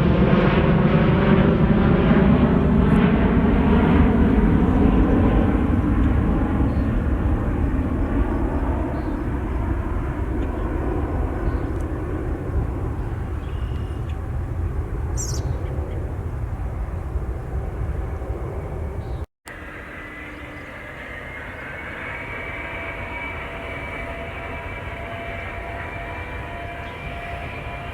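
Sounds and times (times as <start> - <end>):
jet engines rumbling: 0.0 - 27.9.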